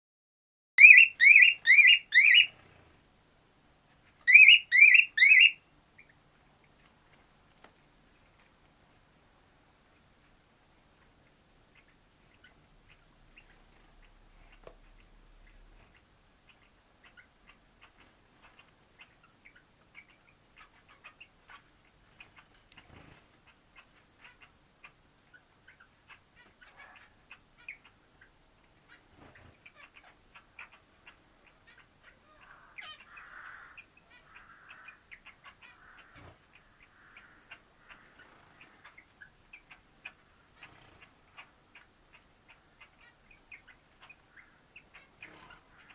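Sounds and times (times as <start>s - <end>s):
soft bird chirping: 0.8s - 2.9s, 3.9s - 6.9s, 11.0s - 45.9s.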